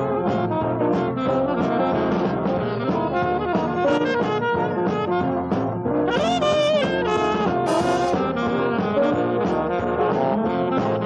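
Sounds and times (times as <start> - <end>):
jazz band with horn section: 0.0 - 11.0.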